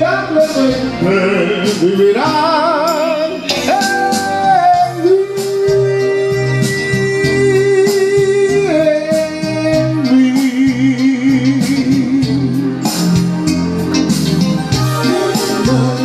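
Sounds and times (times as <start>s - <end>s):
man singing with vibrato: 0.0s - 13.0s, 14.8s - 16.0s
guitar accompaniment: 0.0s - 16.0s.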